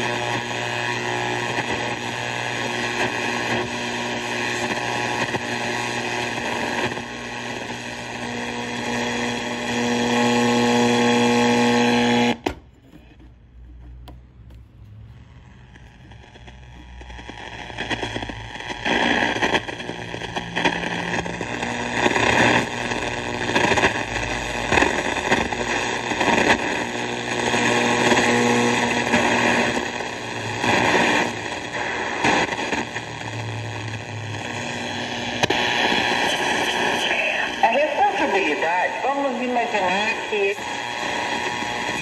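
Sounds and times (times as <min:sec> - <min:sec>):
radio static hissing and crackling: 0:00.0 - 0:13.2, 0:14.0 - 0:42.0.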